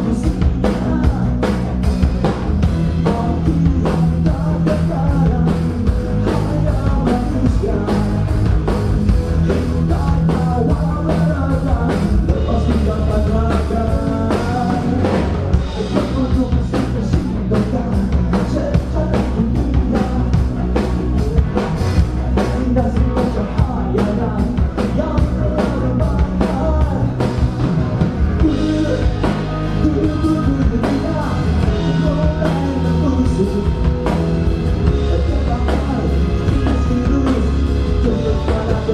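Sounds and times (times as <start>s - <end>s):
man singing lead vocal: 0.0s - 20.9s, 22.3s - 27.4s, 28.3s - 38.9s
drum kit: 0.0s - 38.9s
electric bass: 0.0s - 38.9s
live rock band playing: 0.0s - 38.9s.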